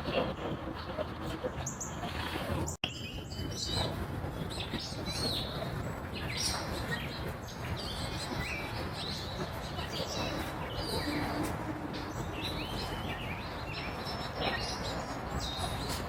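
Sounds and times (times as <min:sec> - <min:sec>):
birds chirping: 0:00.0 - 0:16.0
outdoor background noise: 0:00.0 - 0:16.0.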